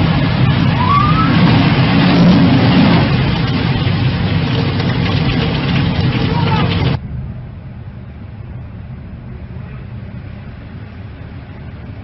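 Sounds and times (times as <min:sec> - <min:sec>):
storm waves roaring: 0:00.0 - 0:12.0.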